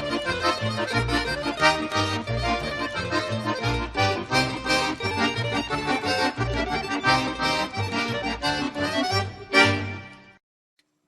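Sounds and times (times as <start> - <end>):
upbeat accordion tune: 0.0 - 10.4.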